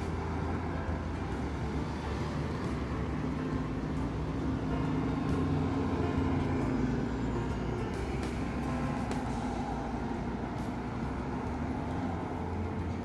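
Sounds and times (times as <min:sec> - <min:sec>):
bus driving by: 0:00.0 - 0:13.0
steady engine hum: 0:00.0 - 0:13.0
suv passing slowly: 0:00.0 - 0:13.0.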